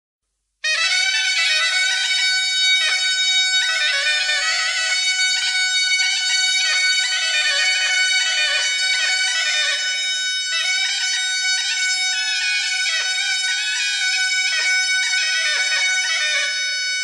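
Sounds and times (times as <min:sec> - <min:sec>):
bagpipe music: 0:00.6 - 0:17.0.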